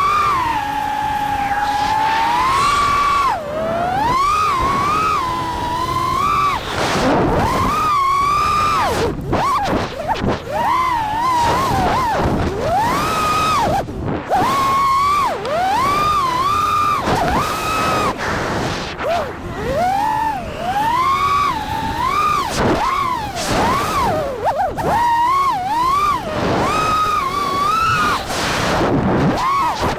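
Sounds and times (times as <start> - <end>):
drone motors whining: 0.0 - 29.9
wind rushing over microphone: 0.0 - 29.9.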